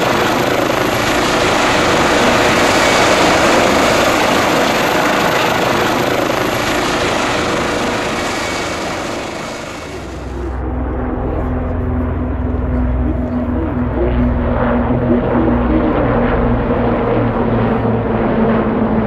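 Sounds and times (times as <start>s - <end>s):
helicopter rotor and turbine whir: 0.0s - 19.0s.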